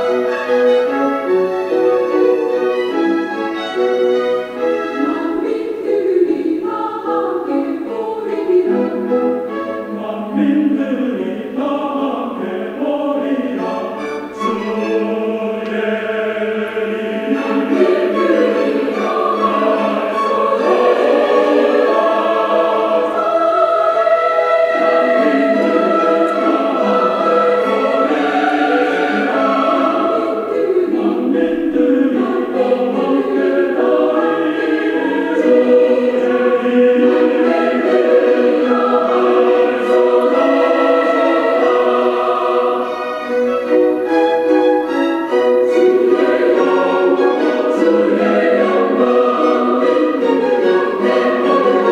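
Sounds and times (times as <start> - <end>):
choir singing held chords: 0.0 - 51.9.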